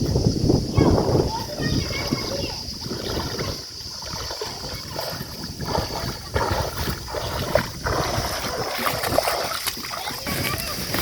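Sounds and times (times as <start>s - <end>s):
wind rumbling on microphone: 0.0s - 11.0s
water sloshing and splashing: 1.2s - 11.0s.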